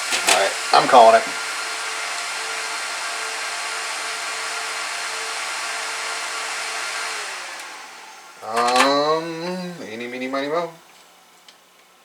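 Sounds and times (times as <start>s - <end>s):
server cooling fans whining: 0.0s - 12.0s.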